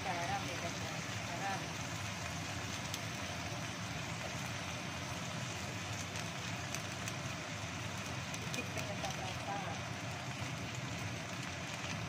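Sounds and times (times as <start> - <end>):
burner rumbling: 0.0 - 12.0
vegetables frying hiss: 0.0 - 12.0.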